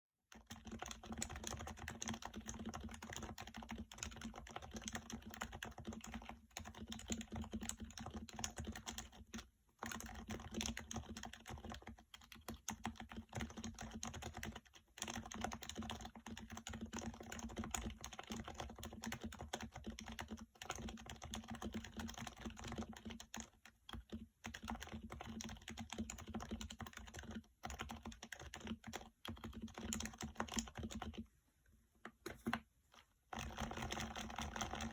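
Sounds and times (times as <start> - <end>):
typing on a keyboard: 0.3 - 31.2, 33.3 - 34.9.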